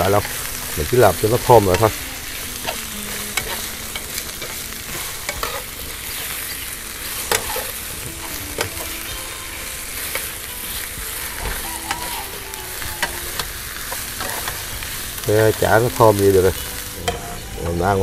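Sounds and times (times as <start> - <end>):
chopsticks scraping a pan: 0.0 - 17.8
fish cake sizzling in oil: 0.0 - 18.0.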